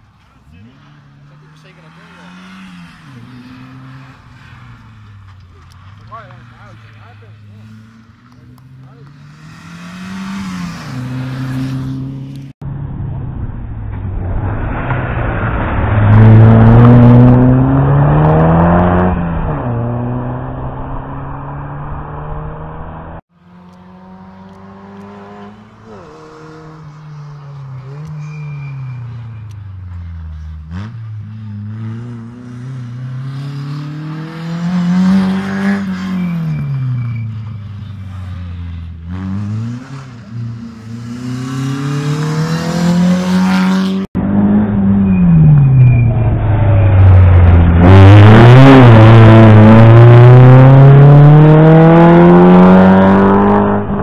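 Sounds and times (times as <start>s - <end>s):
distant car engine: 0.0s - 54.0s
rally car engine accelerating: 0.4s - 12.5s, 13.1s - 54.0s.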